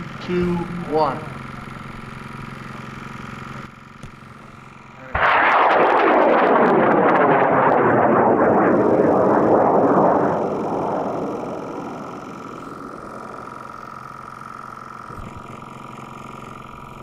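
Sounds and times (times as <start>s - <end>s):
rocket motor roaring with crackle: 0.0s - 17.0s.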